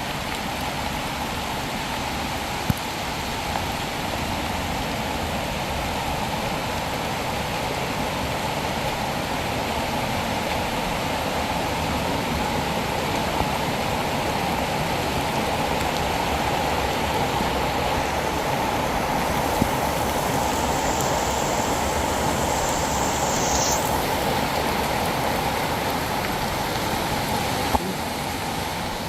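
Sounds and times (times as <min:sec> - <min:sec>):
heavy rain falling: 0:00.0 - 0:29.0
rushing runoff water: 0:00.0 - 0:29.0.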